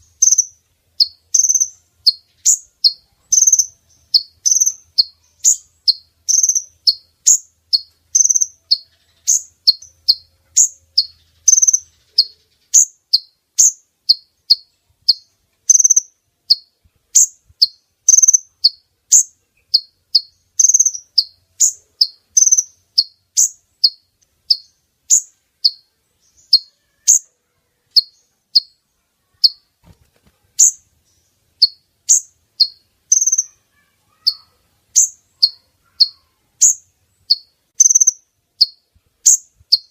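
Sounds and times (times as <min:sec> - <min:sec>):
bird chirping high and sharp: 0:00.0 - 0:27.3, 0:27.9 - 0:28.8, 0:29.4 - 0:29.7, 0:30.6 - 0:39.9.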